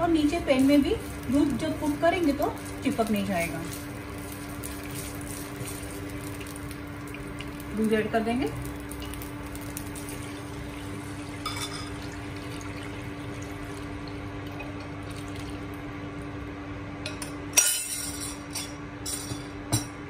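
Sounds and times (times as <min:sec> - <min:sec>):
induction cooktop hum: 0:00.0 - 0:20.0.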